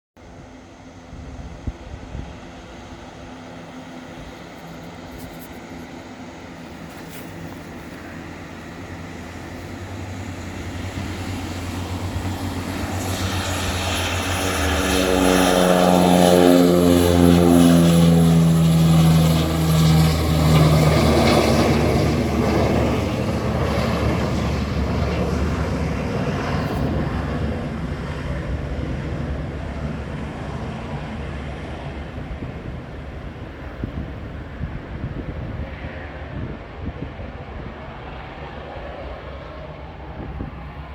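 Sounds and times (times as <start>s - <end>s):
turboprop aircraft passing: 0.2s - 40.9s.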